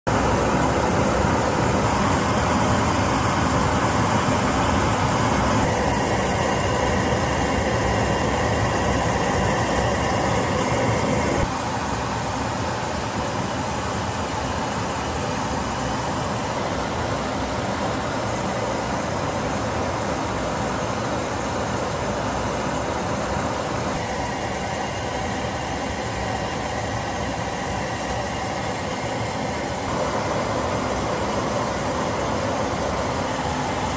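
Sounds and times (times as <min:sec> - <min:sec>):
jet aircraft engines: 0:00.1 - 0:33.9.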